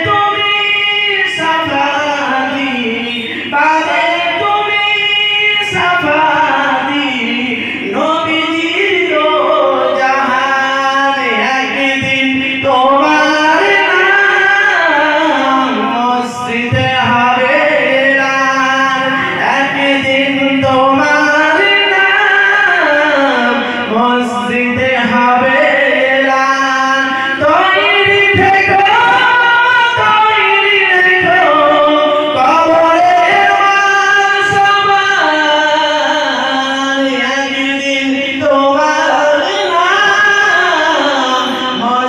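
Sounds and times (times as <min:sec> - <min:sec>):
man singing devotional song: 0:00.0 - 0:42.0.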